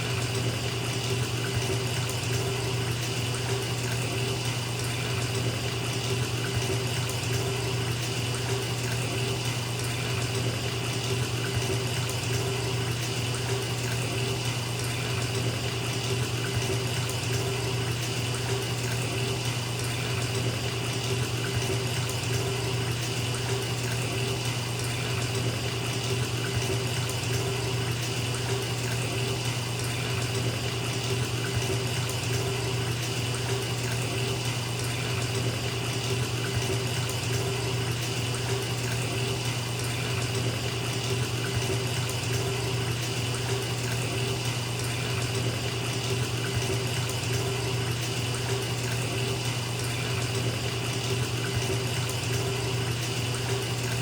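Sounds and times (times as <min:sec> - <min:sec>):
water pouring into bathtub: 0:00.0 - 0:54.0.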